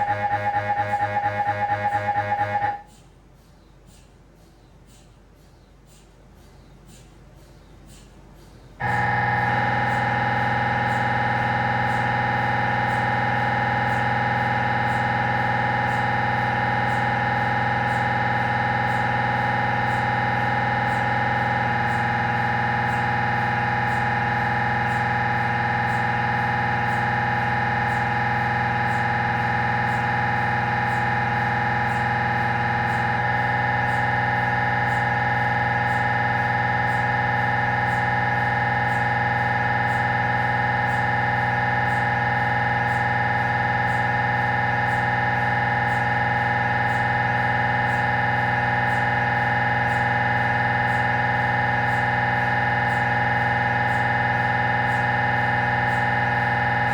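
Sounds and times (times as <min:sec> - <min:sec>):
mri scanner electronic drone: 0:00.0 - 0:06.0, 0:08.6 - 0:56.9.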